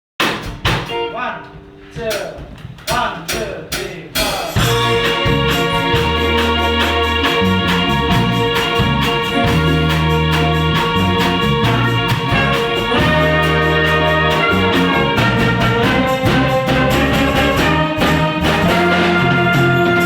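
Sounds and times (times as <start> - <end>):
steady drum beat: 0.2 - 20.0
keyboard chords: 0.5 - 2.8, 4.5 - 20.0
held bass notes: 0.9 - 20.0.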